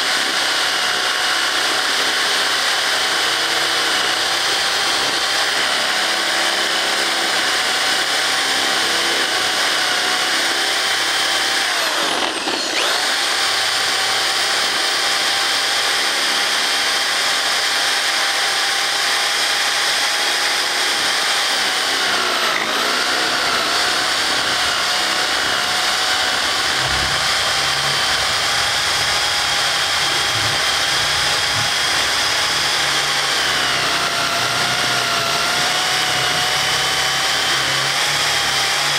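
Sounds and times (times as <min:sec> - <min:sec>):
electric drill boring through paper: 0:00.0 - 0:38.9.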